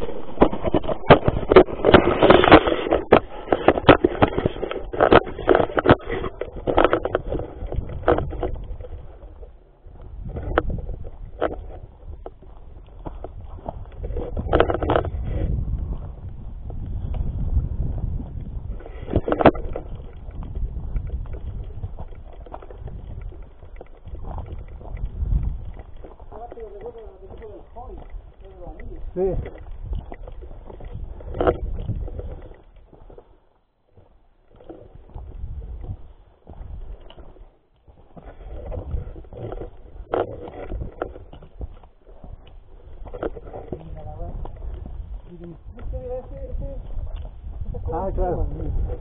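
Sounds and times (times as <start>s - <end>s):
camera knocking and rubbing: 0.0s - 33.3s, 33.9s - 37.4s, 38.0s - 49.0s
footfalls on dirt trail: 0.0s - 49.0s.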